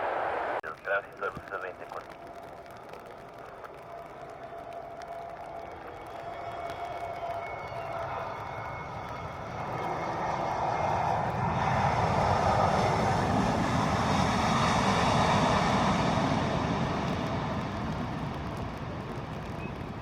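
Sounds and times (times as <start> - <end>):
jet engines roaring past: 0.0 - 20.0.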